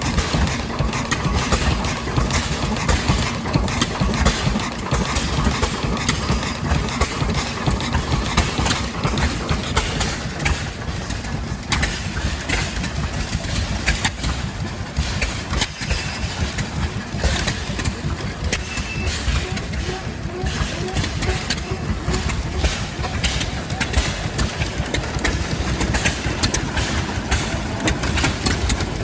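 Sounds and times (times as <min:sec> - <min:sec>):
engines idling: 0:00.0 - 0:29.0.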